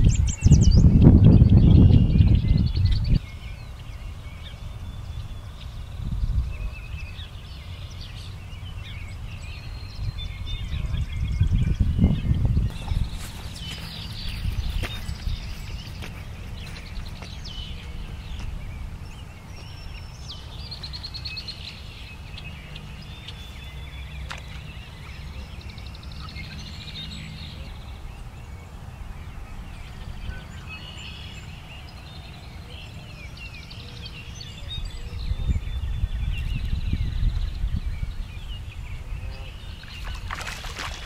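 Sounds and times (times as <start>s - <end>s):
steady low rumble: 0.0s - 33.3s
songbirds singing and calling: 0.0s - 41.0s.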